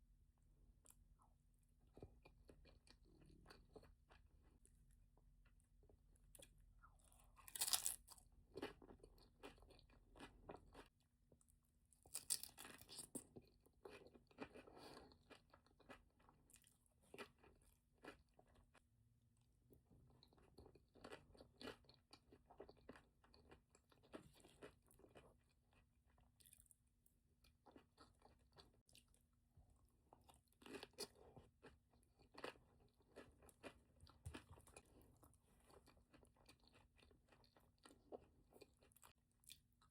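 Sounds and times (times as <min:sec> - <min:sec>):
person chewing and crunching food: 0:00.3 - 0:39.9.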